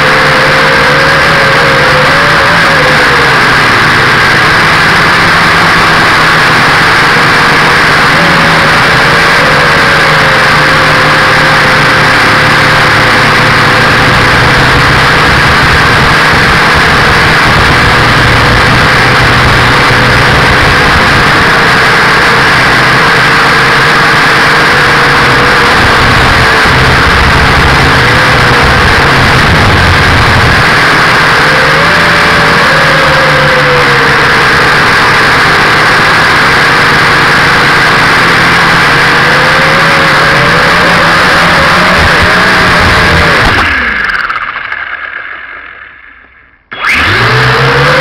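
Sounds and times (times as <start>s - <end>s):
drone propellers buzzing whine: 0.0s - 48.0s.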